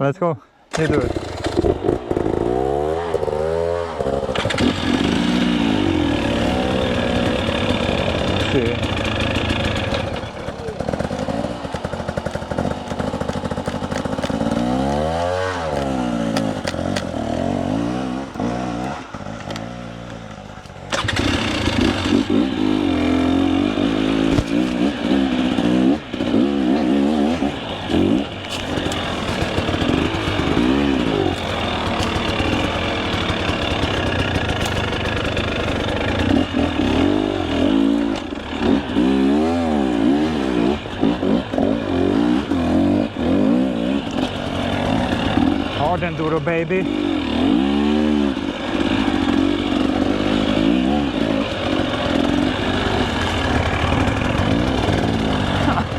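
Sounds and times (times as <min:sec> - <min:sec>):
dirt bike engine revving: 0:00.7 - 0:55.9.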